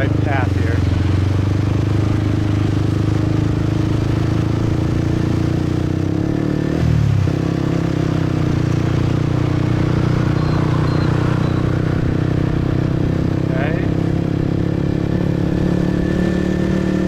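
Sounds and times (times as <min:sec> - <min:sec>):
motorcycle engine running: 0:00.0 - 0:17.0
road noise: 0:00.0 - 0:17.0.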